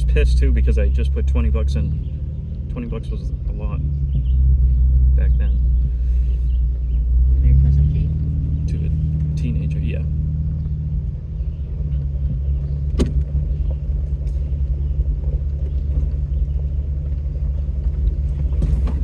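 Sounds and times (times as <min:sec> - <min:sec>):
truck engine drone inside cab: 0:00.0 - 0:19.0.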